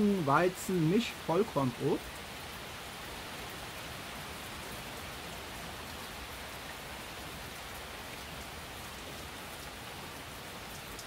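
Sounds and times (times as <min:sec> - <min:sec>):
pouring rain: 0:00.0 - 0:11.0.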